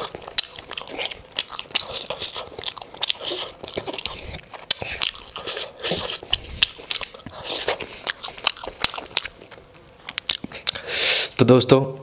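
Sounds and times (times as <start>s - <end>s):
man chewing food: 0.0s - 11.4s.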